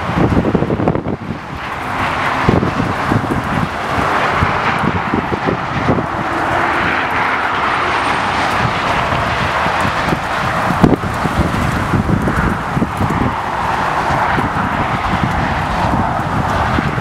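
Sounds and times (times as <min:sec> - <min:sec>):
highway traffic passing: 0:00.0 - 0:17.0
wind buffeting microphone: 0:00.0 - 0:17.0.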